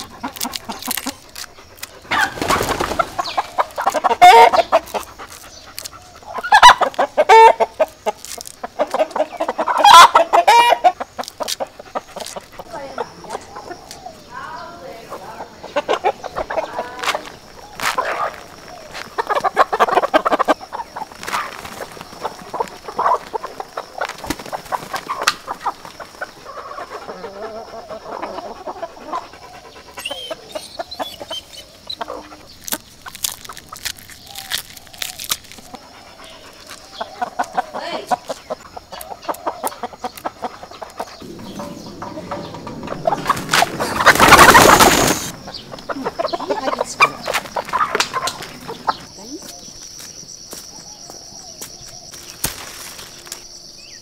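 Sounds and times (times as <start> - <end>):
chickens clucking: 0.0 - 50.0.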